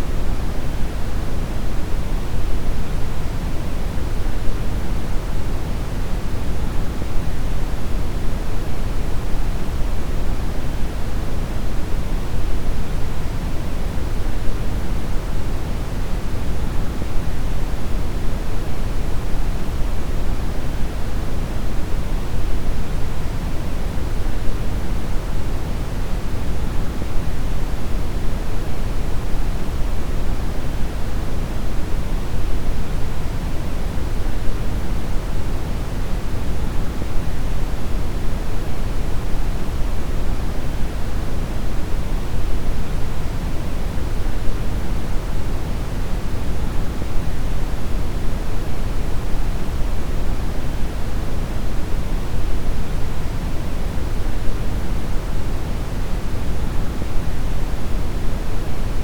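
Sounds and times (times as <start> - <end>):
brown noise rumbling hiss: 0.0 - 59.0.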